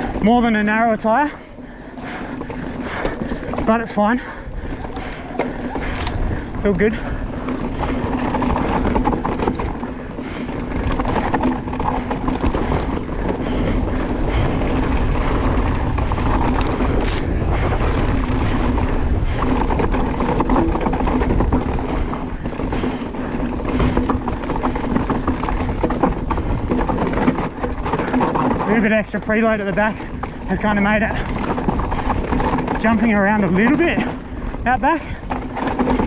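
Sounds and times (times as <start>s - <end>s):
bike knocking and rattling: 0.0s - 36.0s
tyre and wind noise: 0.0s - 36.0s.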